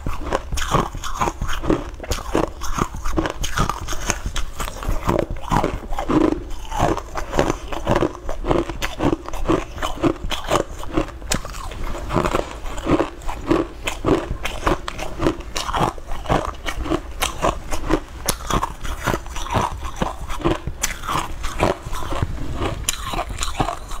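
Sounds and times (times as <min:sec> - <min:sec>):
chewing with wet mouth sounds: 0:00.0 - 0:24.0.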